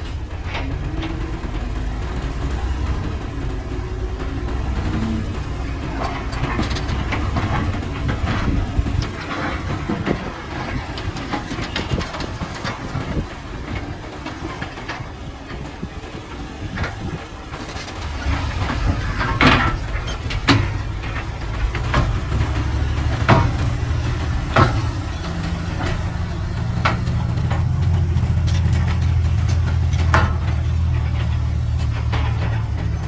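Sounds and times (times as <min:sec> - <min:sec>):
heavy machinery diesel rumble: 0:00.0 - 0:33.0
rocks knocking and clattering: 0:00.0 - 0:33.0.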